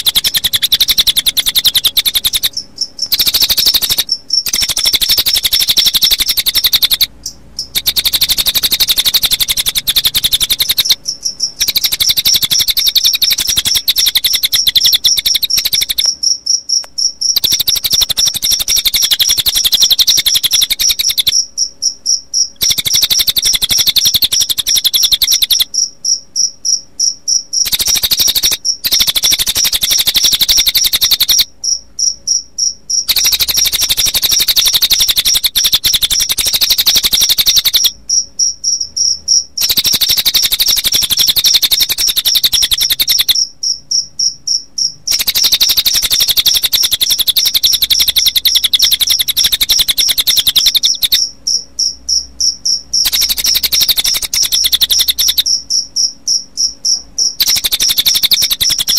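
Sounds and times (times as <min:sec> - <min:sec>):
bird song: 0:00.0 - 0:58.9
crickets chirping: 0:00.0 - 0:58.9.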